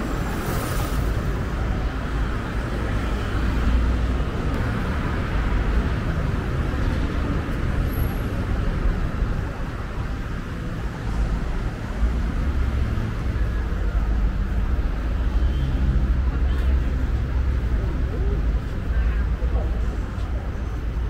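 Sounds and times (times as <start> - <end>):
city road traffic rumble: 0.0 - 21.0.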